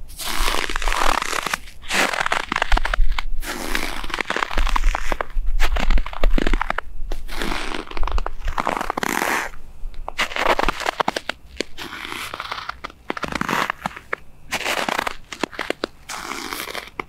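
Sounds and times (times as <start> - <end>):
boots crunching in snow: 0.1 - 17.0.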